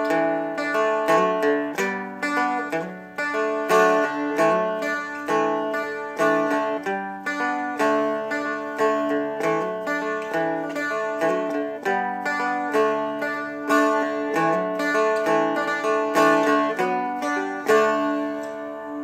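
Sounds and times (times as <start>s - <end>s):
plucked dulcimer melody: 0.0s - 19.0s.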